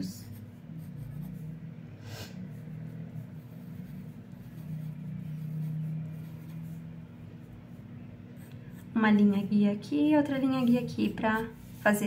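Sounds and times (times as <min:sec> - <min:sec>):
pencil scratching on paper: 0:00.0 - 0:12.0
steady low hum: 0:00.0 - 0:12.0.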